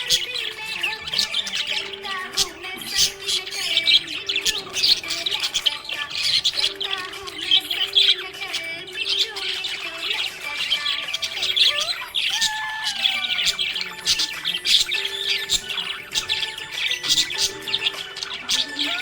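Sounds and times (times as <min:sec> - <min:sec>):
budgerigars chirping: 0:00.0 - 0:19.0.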